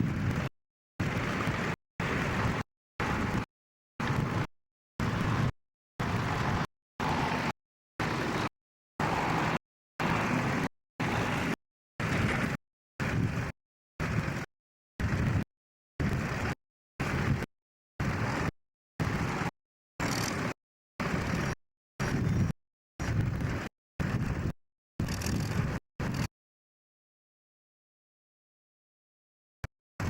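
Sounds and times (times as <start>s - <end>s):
wind: 0.0s - 26.3s.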